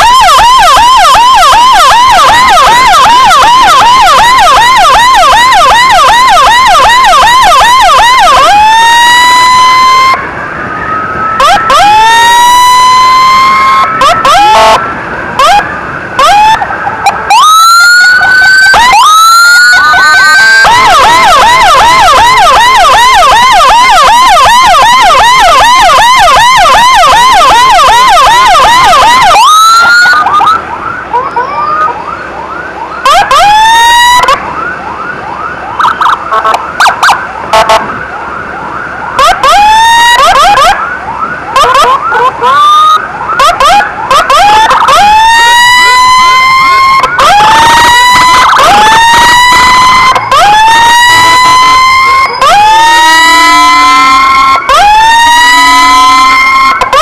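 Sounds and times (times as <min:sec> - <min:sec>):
emergency siren: 0:00.0 - 0:57.0.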